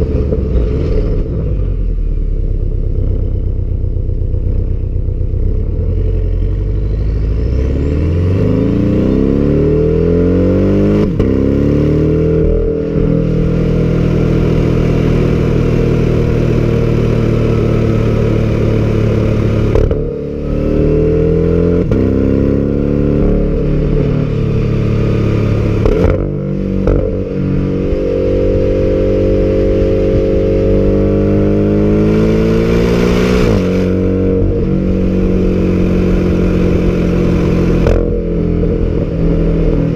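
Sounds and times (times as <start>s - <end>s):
sports car engine accelerating: 0.0s - 39.9s.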